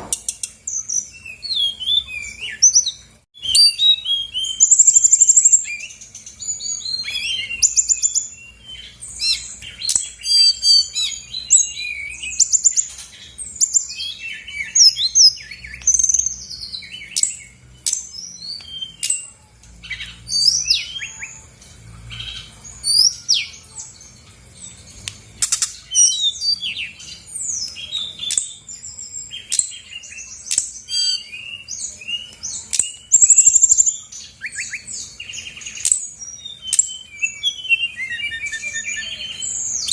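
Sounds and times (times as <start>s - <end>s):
bird singing chirps and whistles: 0.0s - 39.9s.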